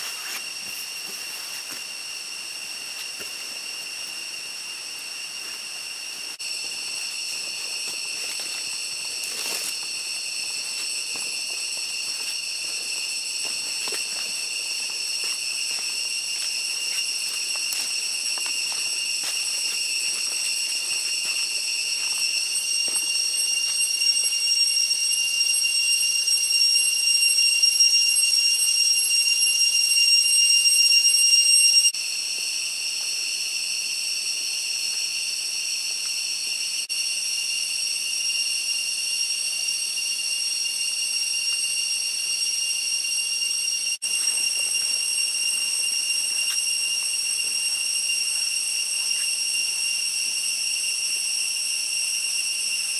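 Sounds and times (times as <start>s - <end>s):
cicadas droning: 0.0s - 52.9s.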